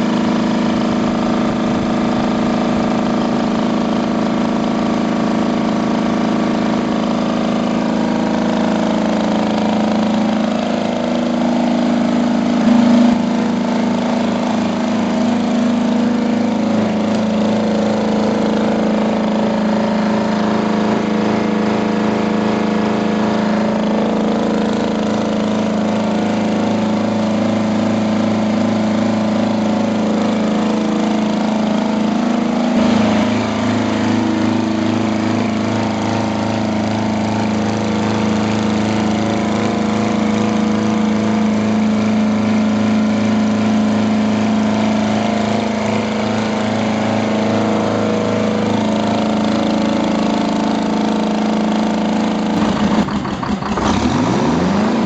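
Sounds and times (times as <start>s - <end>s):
generator diesel engine running: 0.0s - 55.0s.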